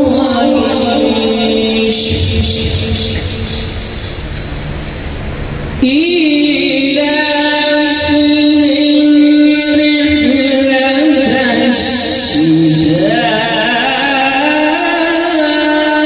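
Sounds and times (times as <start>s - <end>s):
man chanting: 0.0s - 3.7s, 5.8s - 16.0s.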